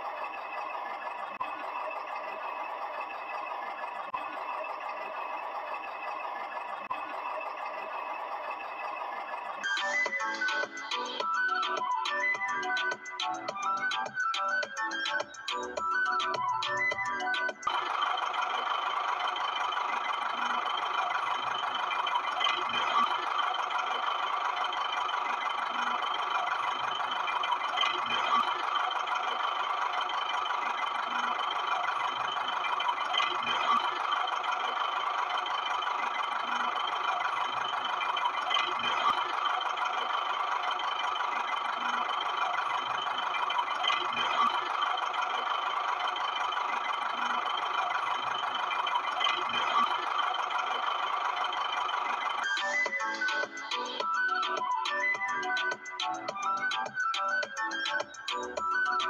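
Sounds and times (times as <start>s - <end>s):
rattling engine running: 0.0s - 12.0s, 16.5s - 53.8s.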